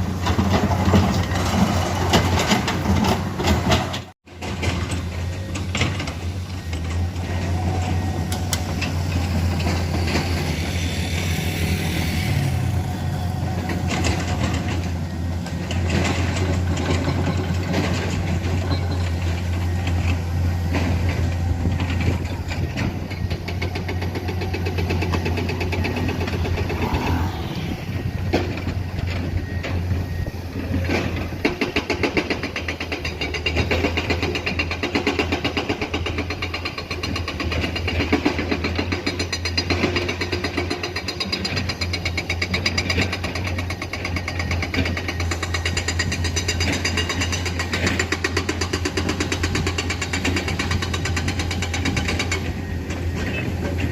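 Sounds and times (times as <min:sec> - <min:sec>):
diesel excavator engines running: 0:00.0 - 0:53.9.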